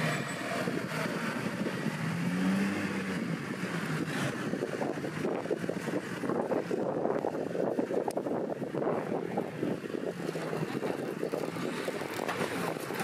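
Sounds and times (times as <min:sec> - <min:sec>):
off-road engine revving: 0:00.0 - 0:13.0.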